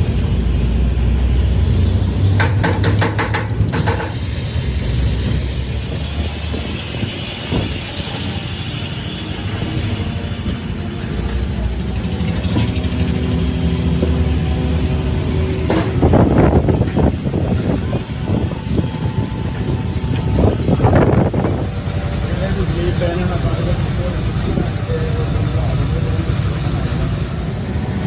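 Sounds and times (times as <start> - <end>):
steady hum: 0.0 - 28.0
motor running with low rumble: 3.7 - 28.0.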